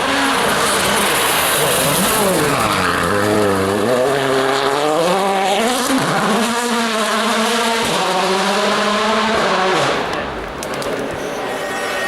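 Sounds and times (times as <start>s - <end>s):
rally car engine at high revs: 0.0s - 11.1s.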